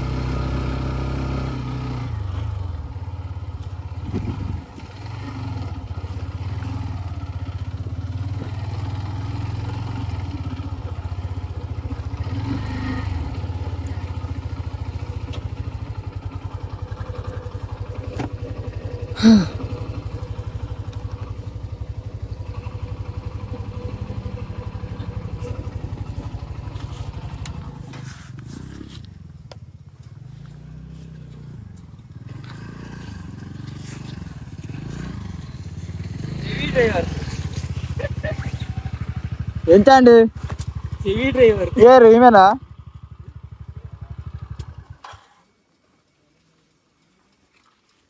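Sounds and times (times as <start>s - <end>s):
scooter engine running: 0.0s - 45.6s.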